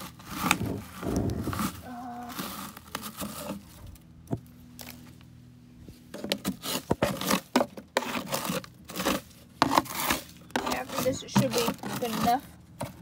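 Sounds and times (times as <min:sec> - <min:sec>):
wood shavings rustling: 0:00.0 - 0:05.3, 0:05.9 - 0:13.0.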